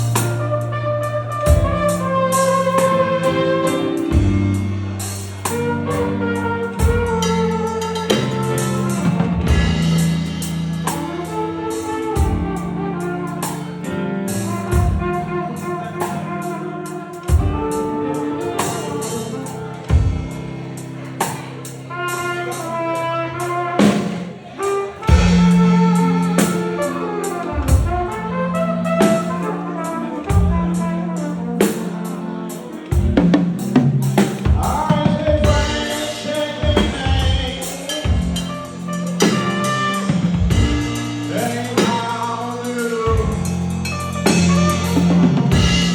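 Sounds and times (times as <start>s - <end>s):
drum kit beat: 0.0s - 45.9s
flugelhorn melody: 0.0s - 45.9s.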